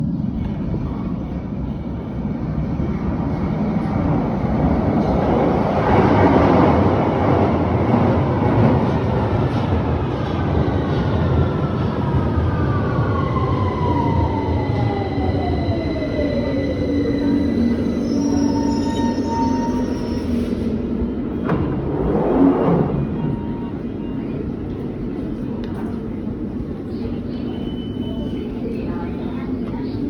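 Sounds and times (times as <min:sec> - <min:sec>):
underground train rumbling: 0:00.0 - 0:30.0.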